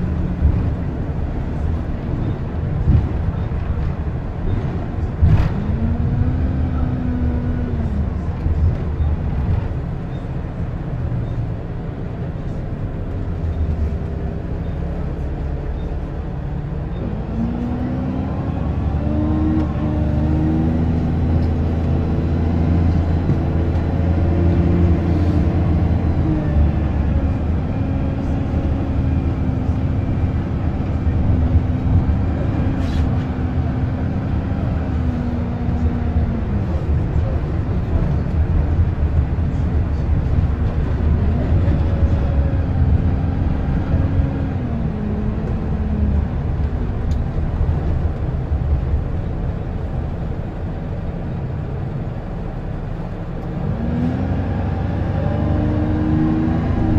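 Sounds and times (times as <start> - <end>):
bus engine and drivetrain: 0.0 - 56.9.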